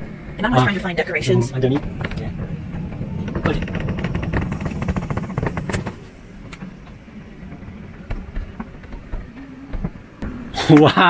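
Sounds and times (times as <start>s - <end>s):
electric motor humming: 0.0s - 10.5s.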